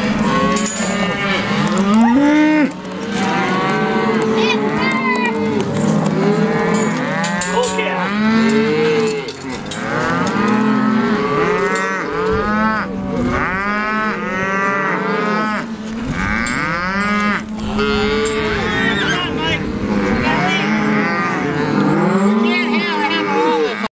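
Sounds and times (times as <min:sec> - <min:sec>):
cattle bawling: 0:00.0 - 0:23.9.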